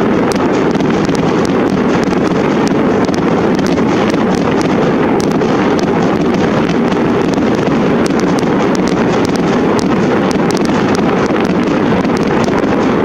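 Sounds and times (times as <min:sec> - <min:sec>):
faint sharp crackles: 0:00.0 - 0:13.0
wind noise on microphone: 0:00.0 - 0:13.0.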